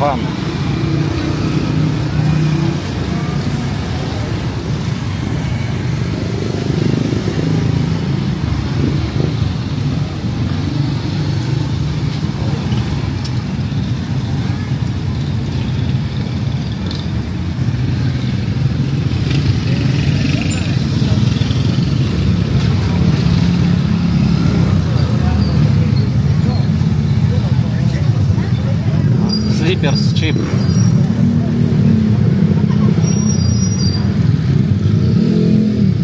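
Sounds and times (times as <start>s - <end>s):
car and motorcycle engines: 0.0s - 36.0s
road noise: 0.0s - 36.0s.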